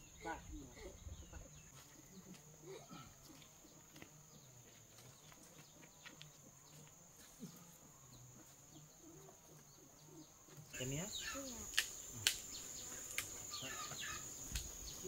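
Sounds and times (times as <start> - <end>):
animal sounds: 0.0 - 15.0
high insect drone: 0.0 - 15.0.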